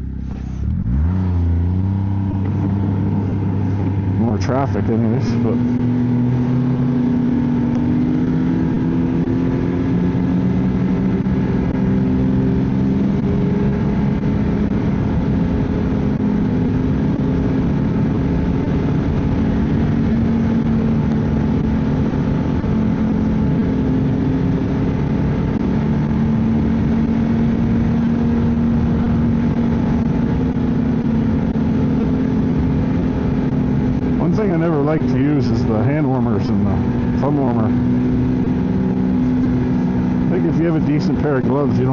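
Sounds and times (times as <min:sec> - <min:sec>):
snowmobile engine running: 0:00.0 - 0:41.9.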